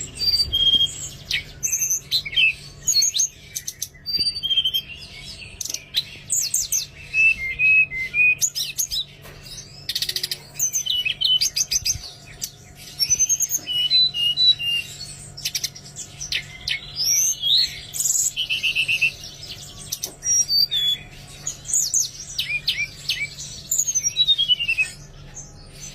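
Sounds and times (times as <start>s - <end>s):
songbird singing and chirping: 0.0s - 25.9s.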